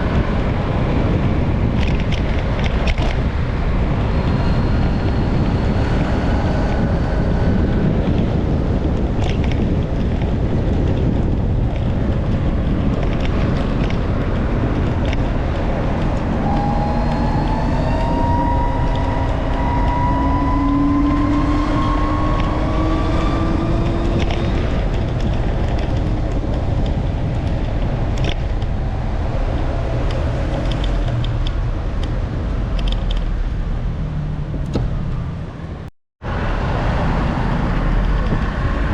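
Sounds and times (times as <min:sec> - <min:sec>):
road and traffic noise: 0:00.0 - 0:38.9
vehicle engine accelerating: 0:00.0 - 0:38.9
wind buffeting microphone: 0:00.0 - 0:38.9.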